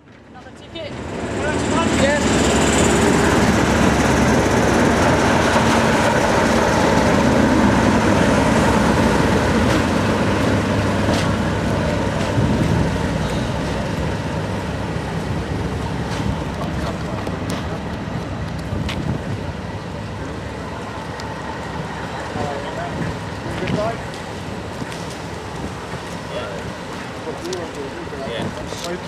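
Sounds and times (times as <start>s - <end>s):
diesel locomotive engine rumble: 0.0s - 29.0s
train wheels on rails: 0.0s - 29.0s.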